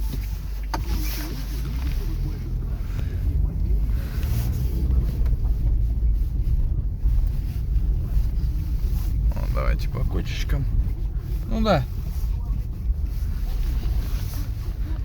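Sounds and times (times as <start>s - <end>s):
road and tyre rumble: 0.0s - 15.0s.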